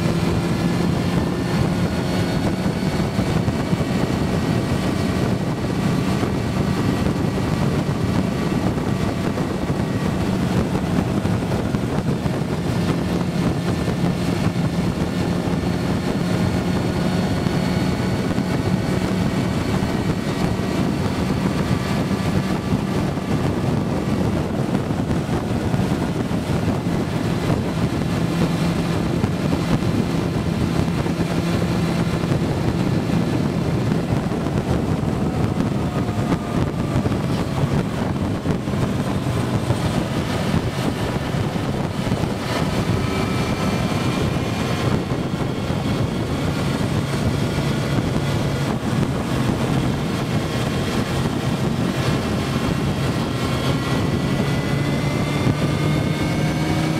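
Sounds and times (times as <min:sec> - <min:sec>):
motorcycle engine running: 0:00.0 - 0:56.9
wind rush: 0:00.0 - 0:56.9.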